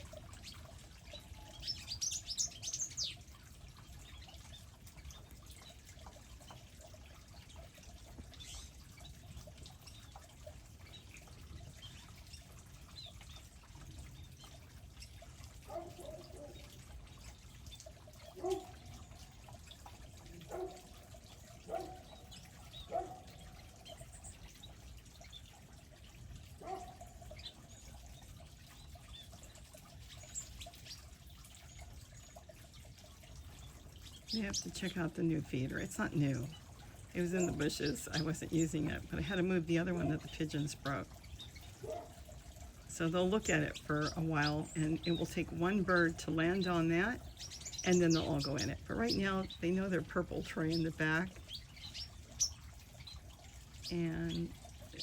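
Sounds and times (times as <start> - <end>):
low background hiss: 0.0 - 55.0
small birds chirping: 0.0 - 55.0.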